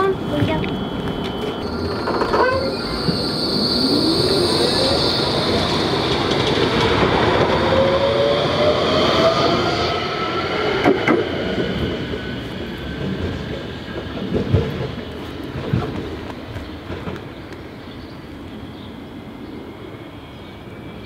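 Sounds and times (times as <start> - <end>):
wheels rumbling on rails: 0.0 - 18.9.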